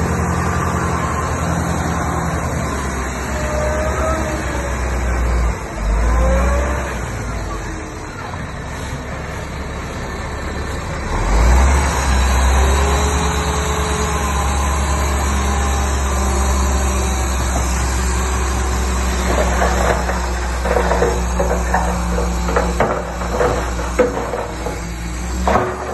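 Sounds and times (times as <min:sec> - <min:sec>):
heavy diesel engine rumbling: 0:00.0 - 0:25.9.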